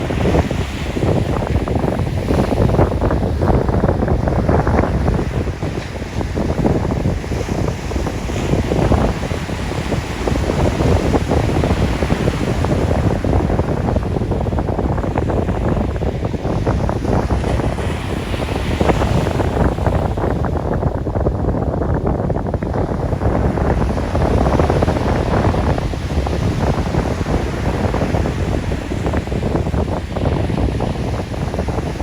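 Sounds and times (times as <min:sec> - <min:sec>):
sea waves washing in: 0:00.0 - 0:32.0
wind buffeting microphone: 0:00.0 - 0:32.0.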